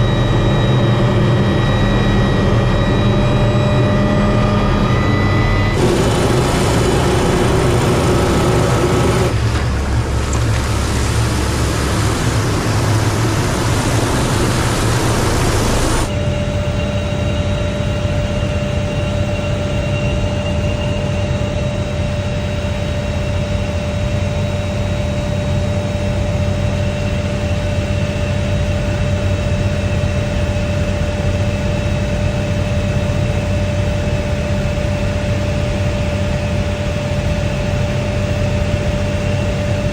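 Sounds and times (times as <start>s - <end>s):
helicopter engine drone: 0.0s - 39.9s.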